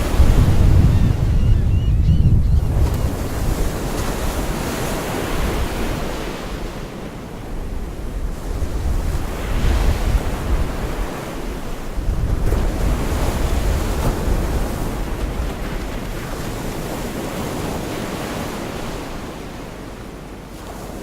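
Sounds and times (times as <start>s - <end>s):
surf breaking ashore: 0.0s - 21.0s
wind buffeting microphone: 0.0s - 21.0s.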